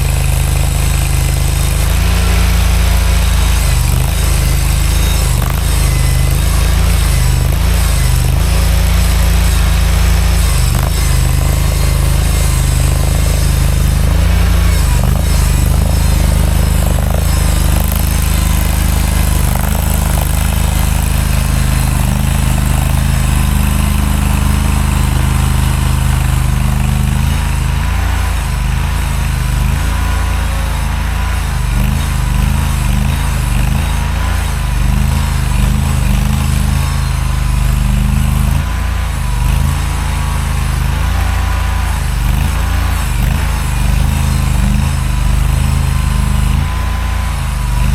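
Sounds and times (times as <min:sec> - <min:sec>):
small loader engine running: 0:00.0 - 0:47.9.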